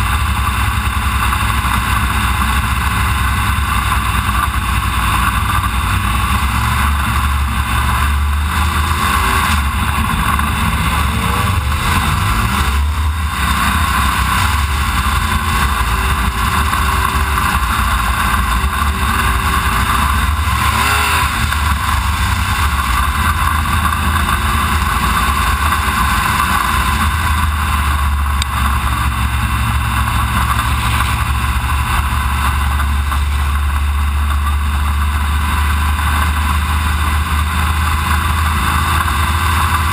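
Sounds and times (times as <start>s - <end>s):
race car engine running at low revs: 0.0s - 39.9s.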